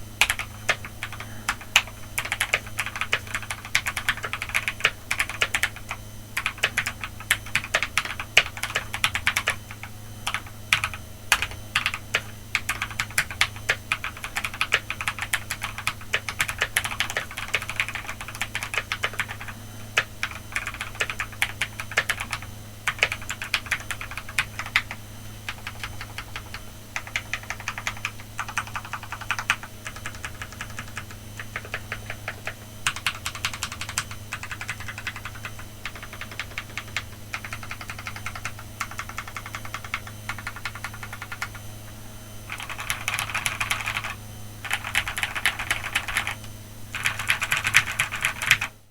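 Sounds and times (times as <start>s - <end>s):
faint low hum: 0.0s - 48.9s
mechanical keyboard typing: 0.2s - 41.6s, 42.5s - 48.7s.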